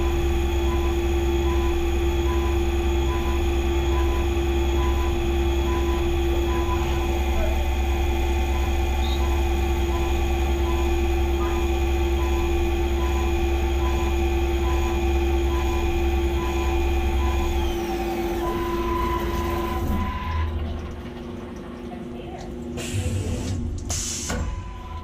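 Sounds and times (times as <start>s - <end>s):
mill spindle whine: 0.0s - 25.0s.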